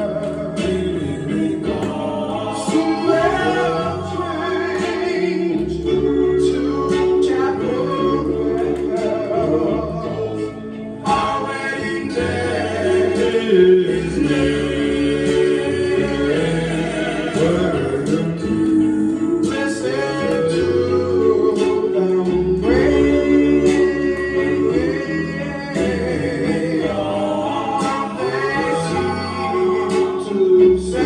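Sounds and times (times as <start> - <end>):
guitar: 0.0 - 31.0
male vocal group singing: 0.0 - 31.0.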